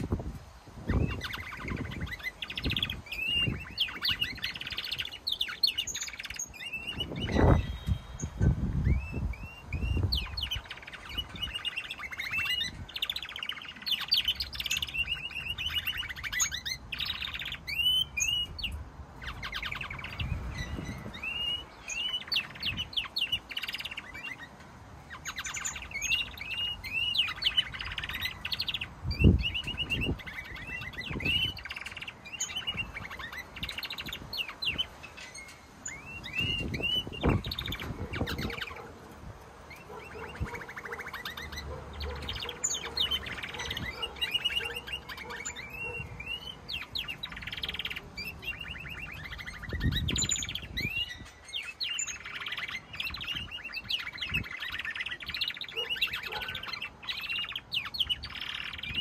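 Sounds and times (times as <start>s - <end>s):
canaries singing: 0.0s - 59.0s.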